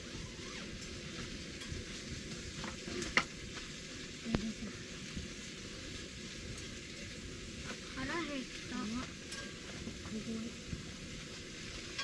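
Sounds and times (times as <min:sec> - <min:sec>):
campfire crackling hiss: 0:00.0 - 0:12.0
wood popping in fire: 0:00.0 - 0:12.0.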